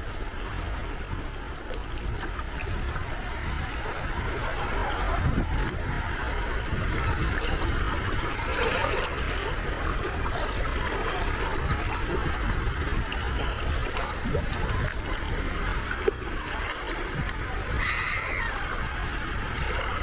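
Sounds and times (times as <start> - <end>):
sea waves washing on shore: 0.0 - 20.0.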